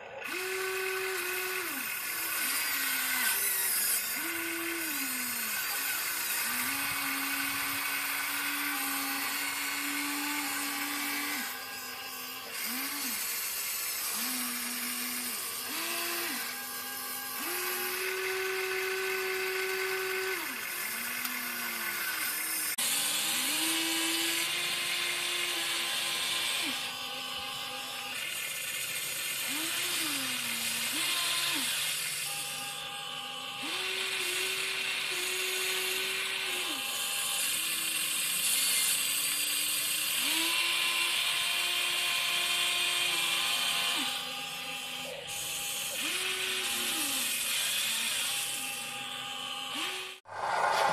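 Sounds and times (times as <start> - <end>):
small electric motors whining: 0.0 - 50.9.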